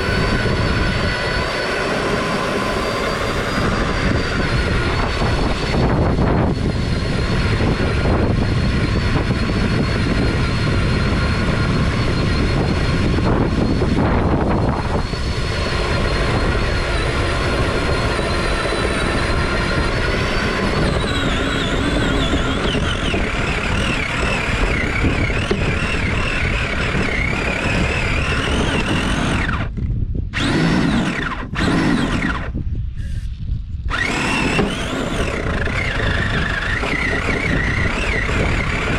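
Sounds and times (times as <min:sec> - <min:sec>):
model car engine whining: 0:00.0 - 0:33.2, 0:33.9 - 0:38.9.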